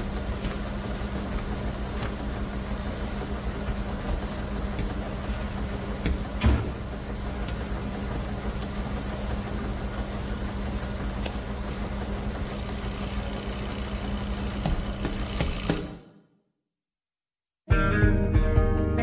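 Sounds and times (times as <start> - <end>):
washing machines running: 0.0 - 16.2.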